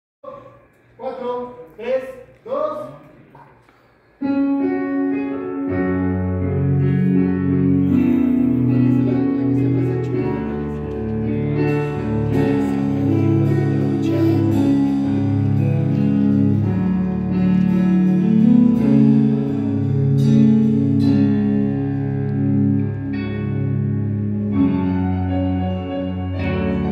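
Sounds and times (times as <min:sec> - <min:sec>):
electric guitar: 0:04.2 - 0:26.9
keyboard: 0:04.2 - 0:26.9
rock band playing: 0:04.2 - 0:26.9
moving bass line: 0:05.0 - 0:26.9.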